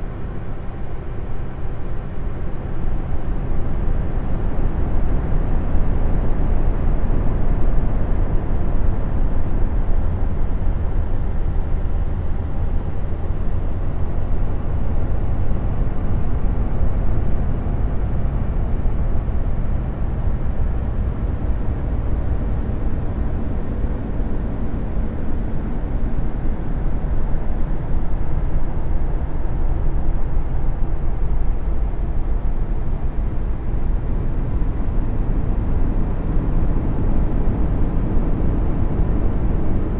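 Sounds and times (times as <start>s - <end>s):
deep rumbling drone: 0.0s - 39.9s.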